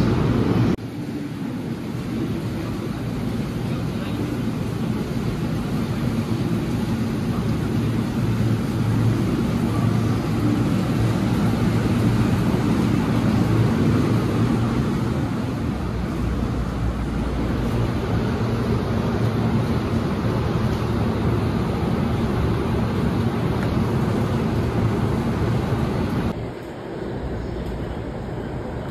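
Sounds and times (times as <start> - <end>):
electric train humming: 0.0 - 28.9.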